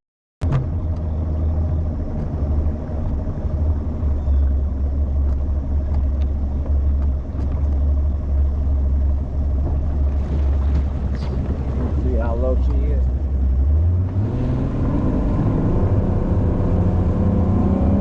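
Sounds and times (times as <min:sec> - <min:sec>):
outboard motor running at low speed: 0:00.4 - 0:17.8.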